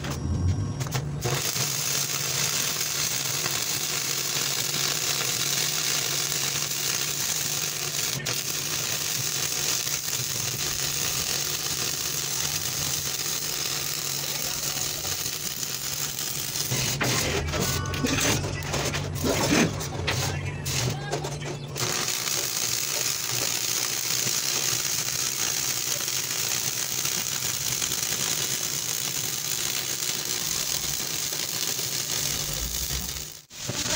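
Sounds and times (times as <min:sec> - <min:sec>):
welding arc crackling and hissing: 0:00.9 - 0:18.2, 0:21.8 - 0:33.9.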